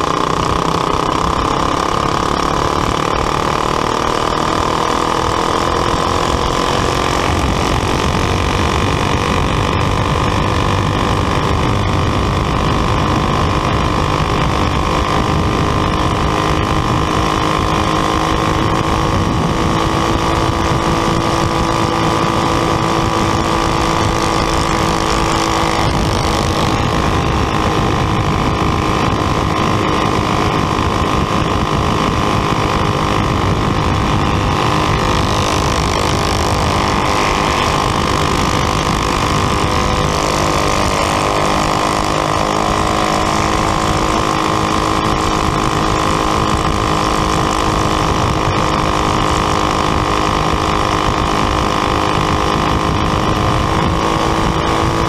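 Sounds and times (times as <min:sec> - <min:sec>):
kart engine droning: 0:00.0 - 0:55.0.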